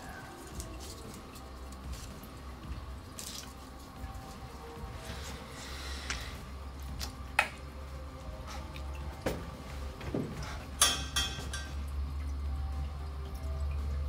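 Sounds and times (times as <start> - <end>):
water dripping onto tiled floor: 0.0 - 4.6, 6.0 - 9.5, 10.8 - 14.0
low steady hum: 0.0 - 14.0.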